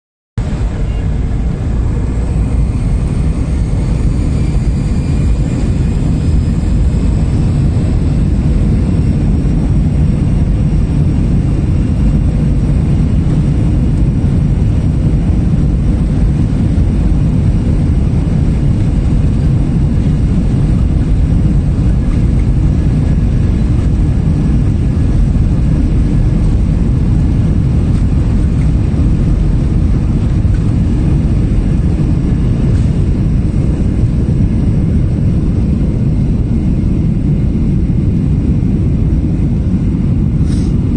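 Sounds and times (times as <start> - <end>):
faint high whine: 0.4 - 40.7
jet engine and airflow noise: 0.4 - 40.9.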